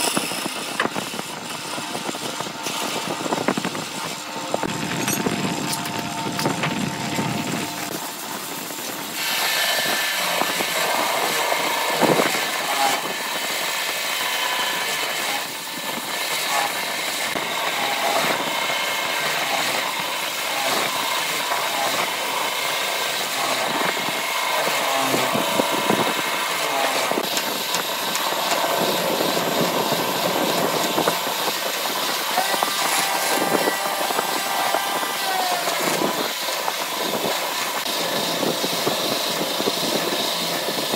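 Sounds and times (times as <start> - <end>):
drill bit hissing through wood: 0.0 - 40.9
lathe running: 0.0 - 40.9.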